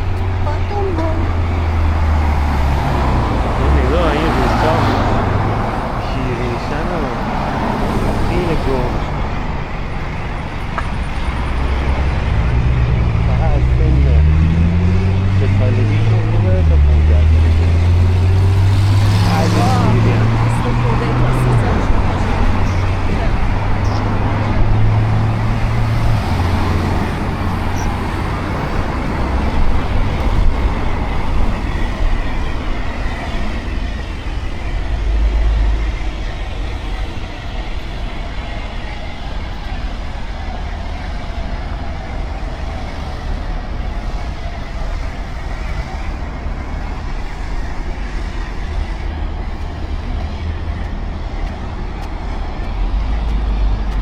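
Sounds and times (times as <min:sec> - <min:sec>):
low traffic rumble: 0:00.0 - 0:54.0
passing cars hissing: 0:00.0 - 0:54.0.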